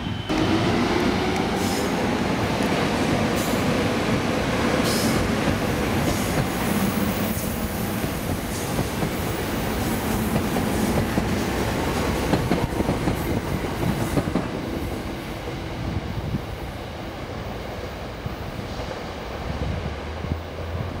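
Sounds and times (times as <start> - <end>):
electric train rolling past: 0.0 - 21.0.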